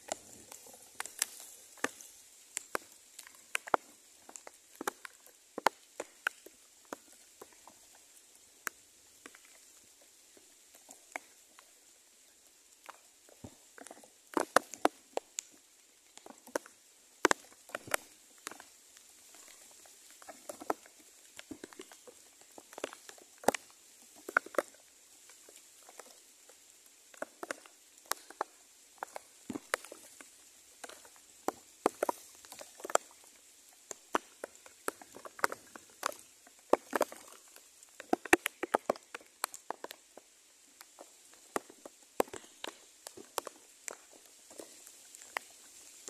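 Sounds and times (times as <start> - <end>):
patter of light ticks: 0.0 - 46.0.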